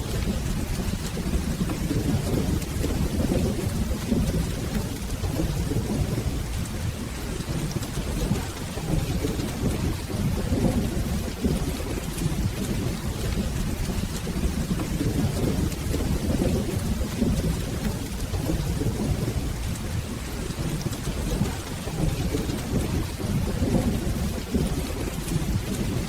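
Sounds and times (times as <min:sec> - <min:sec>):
rolling thunder: 0:00.0 - 0:26.0
steady rain: 0:00.0 - 0:26.0.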